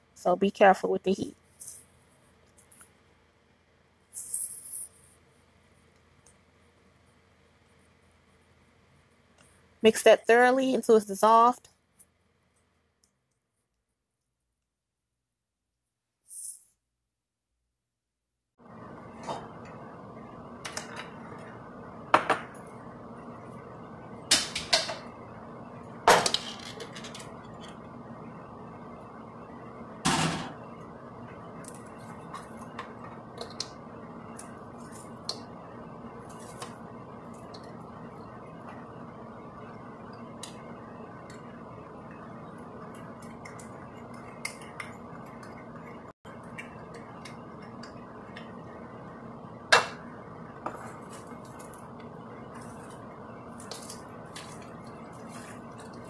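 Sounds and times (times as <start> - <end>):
low background hum: 0.0 - 13.8, 18.6 - 56.0.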